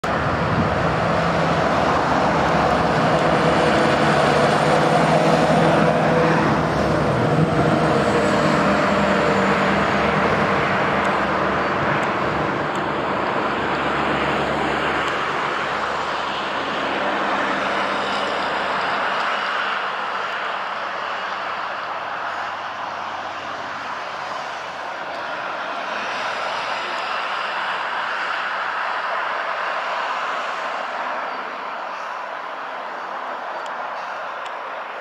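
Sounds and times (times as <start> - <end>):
road traffic: 0.0 - 35.0
truck diesel engine passing: 0.0 - 35.0.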